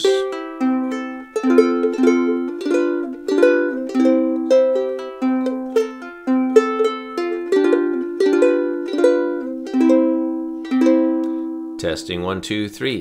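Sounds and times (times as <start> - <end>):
ukulele playing: 0.0 - 12.0.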